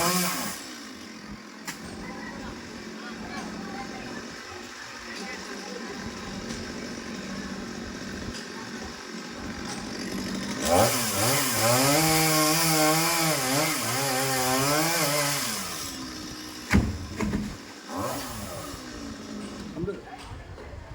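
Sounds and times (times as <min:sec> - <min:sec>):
chainsaw revving and cutting: 0:00.0 - 0:19.9.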